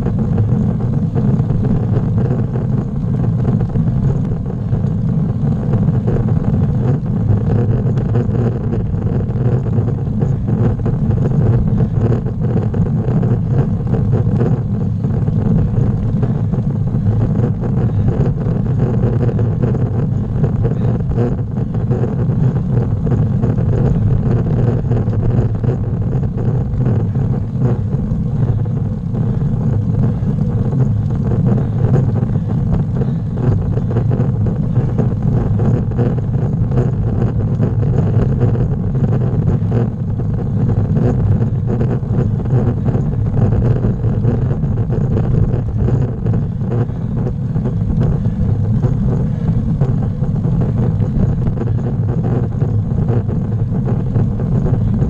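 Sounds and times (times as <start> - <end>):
road noise: 0.0 - 55.0
wind noise: 0.0 - 55.0.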